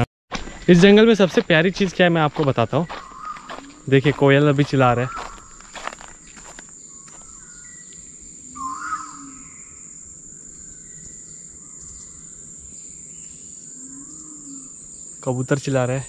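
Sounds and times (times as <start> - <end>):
birds whistling faintly: 0.4 - 16.0
high-pitched insect drone: 0.6 - 16.0.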